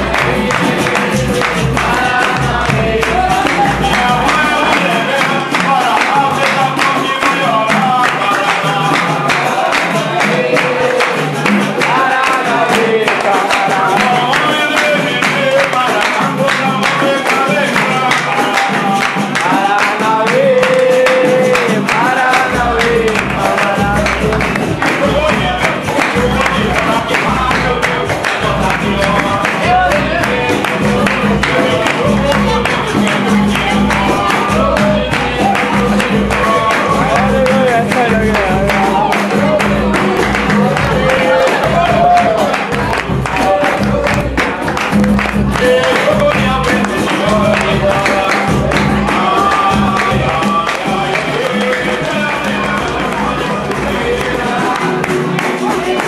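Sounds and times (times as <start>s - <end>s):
percussion: 0.0s - 56.0s
person singing: 0.0s - 56.0s
rhythmic hand-clapping: 0.0s - 56.0s.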